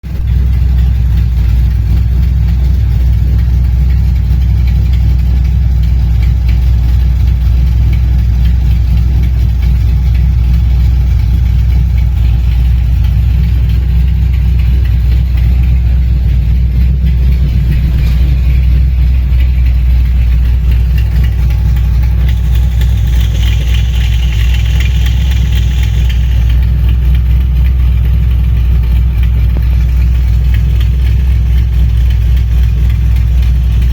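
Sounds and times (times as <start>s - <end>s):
engine idling low rumble: 0.0s - 33.9s.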